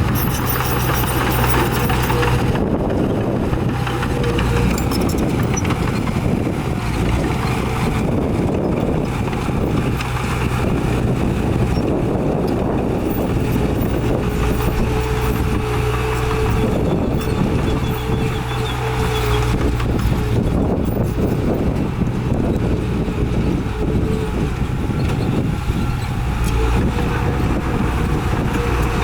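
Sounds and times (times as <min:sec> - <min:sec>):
heavy diesel machinery under load: 0:00.0 - 0:29.0.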